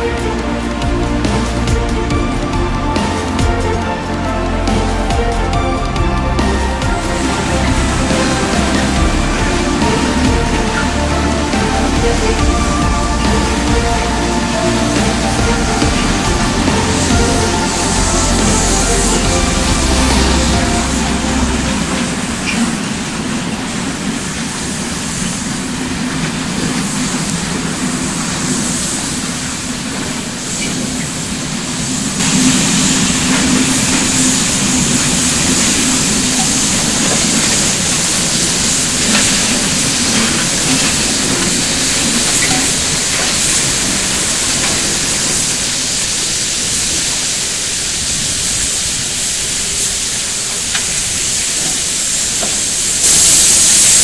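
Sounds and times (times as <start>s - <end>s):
hiss of escaping steam: 0.0s - 54.0s
steam locomotive working: 0.0s - 54.0s.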